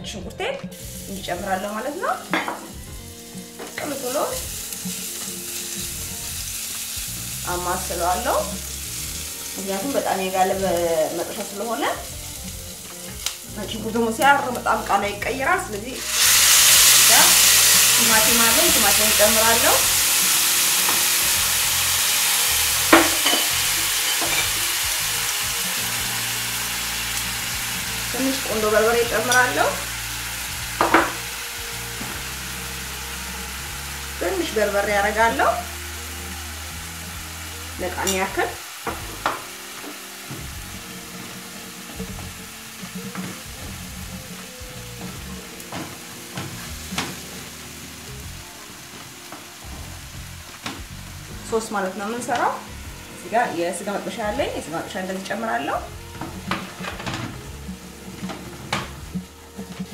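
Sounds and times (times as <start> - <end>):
food sizzling in oil: 0.6 - 59.9.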